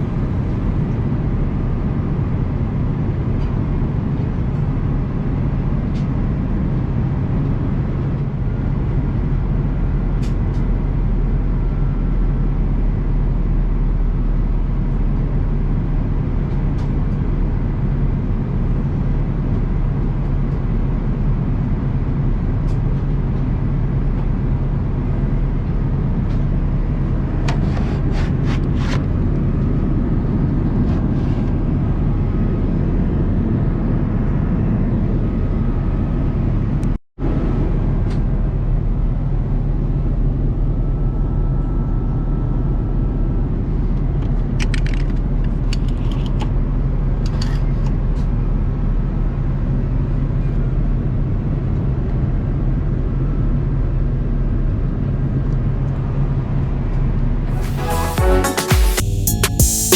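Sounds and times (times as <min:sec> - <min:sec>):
aircraft cabin rumble: 0:00.0 - 0:57.6.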